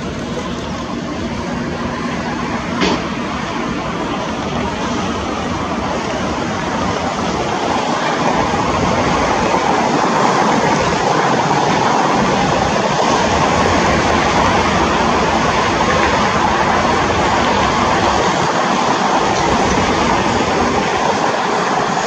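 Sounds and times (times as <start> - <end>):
jet engine noise: 0.0 - 22.0.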